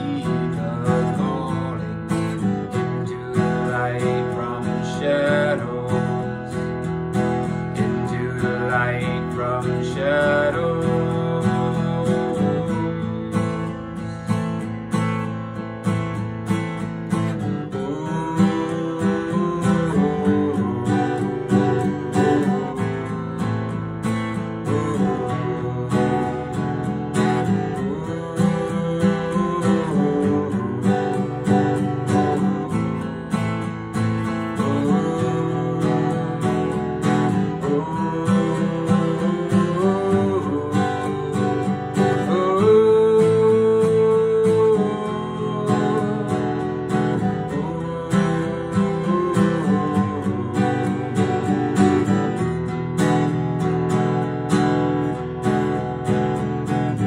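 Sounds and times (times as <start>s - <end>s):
man singing: 0.0s - 15.0s, 15.8s - 54.3s
acoustic guitar strummed: 0.0s - 57.0s.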